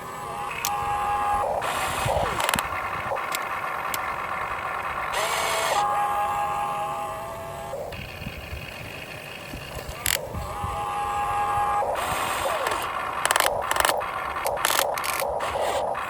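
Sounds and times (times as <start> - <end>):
electric motors whining: 0.0 - 16.0
short noisy bursts: 0.0 - 16.0.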